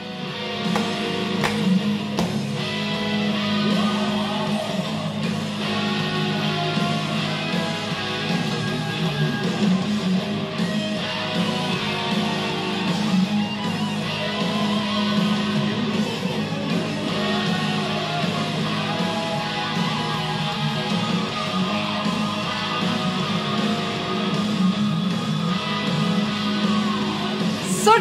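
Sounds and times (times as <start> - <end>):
bass guitar: 0.0 - 28.0
drums: 0.0 - 28.0
electric guitars: 0.0 - 28.0
keyboards: 0.0 - 28.0.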